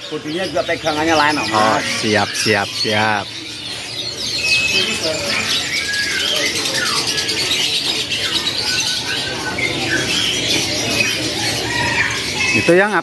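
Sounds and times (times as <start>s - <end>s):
canaries chirping and twittering: 0.0s - 13.0s.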